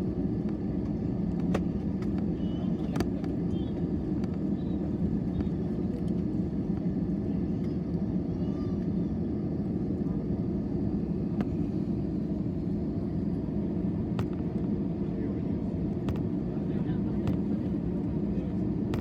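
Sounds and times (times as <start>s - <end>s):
airliner cabin low rumble: 0.0s - 19.0s.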